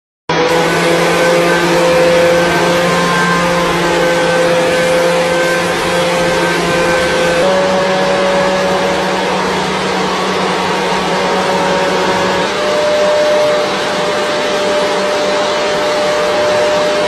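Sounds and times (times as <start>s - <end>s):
vacuum cleaner motor whining: 0.3s - 17.0s.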